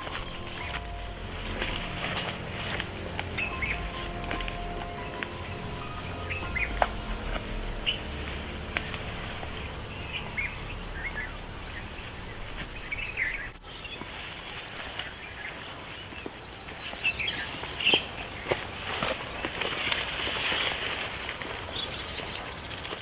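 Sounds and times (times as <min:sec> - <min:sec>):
bird chirps: 0:00.0 - 0:20.6
footsteps through undergrowth: 0:00.0 - 0:23.0
high insect buzz: 0:00.0 - 0:23.0.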